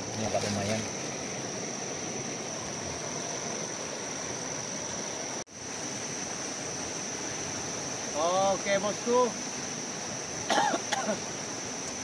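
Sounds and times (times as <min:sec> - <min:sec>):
high-pitched insect drone: 0:00.0 - 0:12.0
river rushing: 0:00.0 - 0:12.0.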